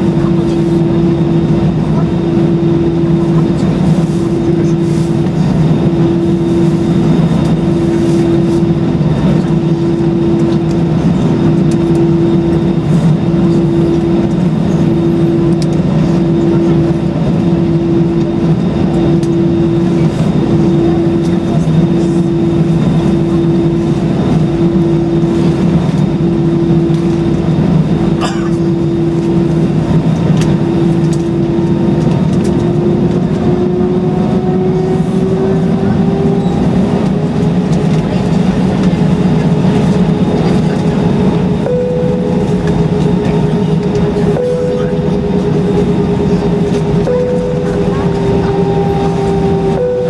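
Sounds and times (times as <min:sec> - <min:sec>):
idling jet engines rumble: 0:00.0 - 0:50.0
pulsing hum: 0:00.0 - 0:50.0.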